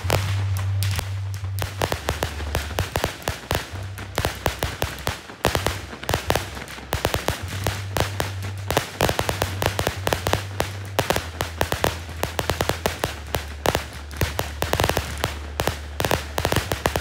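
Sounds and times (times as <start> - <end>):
fireworks crackling: 0.0 - 17.0
low steady hum: 0.0 - 17.0.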